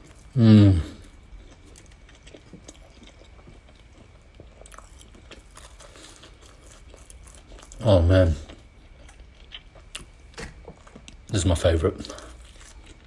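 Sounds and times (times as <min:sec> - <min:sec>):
chewing crunchy fried bun: 0:00.0 - 0:13.0.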